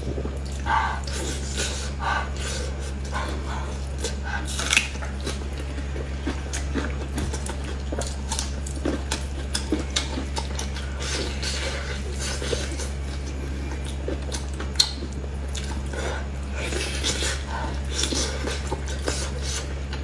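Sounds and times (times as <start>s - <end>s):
low hum: 0.0s - 20.0s
wet chewing and lip-smacking: 0.1s - 20.0s.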